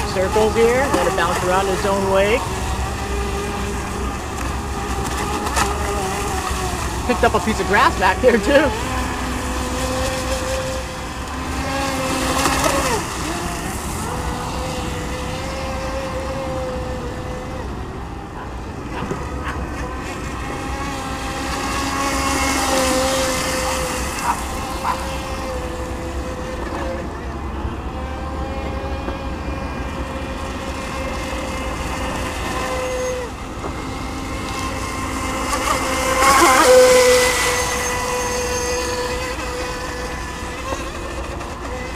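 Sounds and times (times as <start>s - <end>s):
rc speedboat motor whining: 0.0s - 41.9s.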